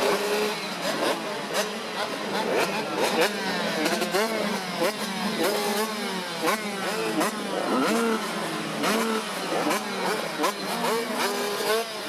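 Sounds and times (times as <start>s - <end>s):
dirt bikes revving: 0.0s - 12.0s.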